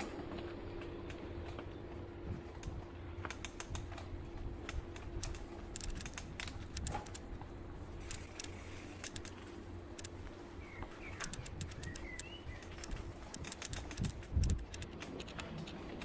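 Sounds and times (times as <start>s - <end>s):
bike rattling: 0.0s - 16.0s
tyres crackling on leaves and twigs: 0.0s - 16.0s.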